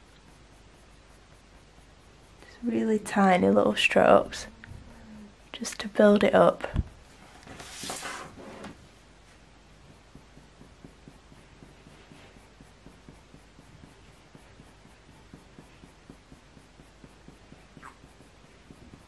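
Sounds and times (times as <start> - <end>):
pencil strokes on paper: 0.0 - 19.0.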